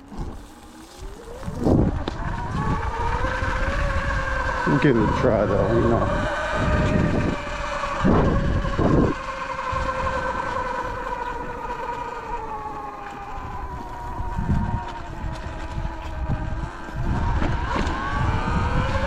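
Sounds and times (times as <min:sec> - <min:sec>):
electric motor whining: 0:00.0 - 0:19.0
wind buffeting microphone: 0:00.0 - 0:19.0.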